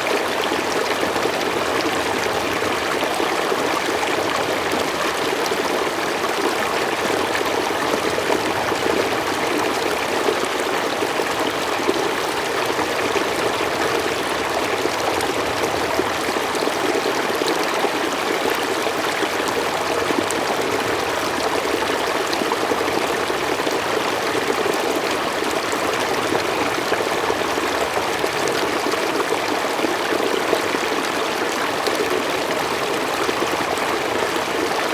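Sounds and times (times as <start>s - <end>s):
stream water flowing over rocks: 0.0s - 34.9s.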